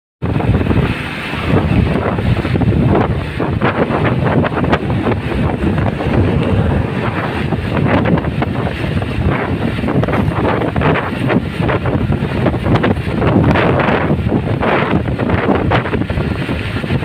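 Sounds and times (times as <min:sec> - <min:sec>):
wind buffeting microphone: 0:00.2 - 0:17.0
passenger train passing: 0:00.3 - 0:17.0.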